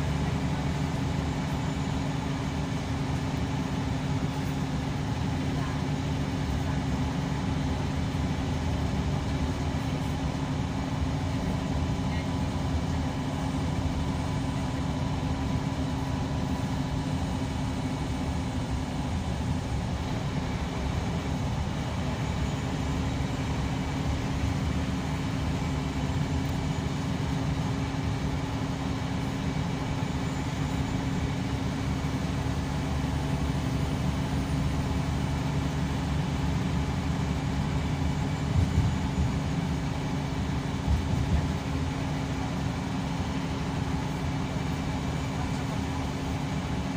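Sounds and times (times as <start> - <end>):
bus engine drone: 0.0 - 46.9
road rumble: 0.0 - 46.9.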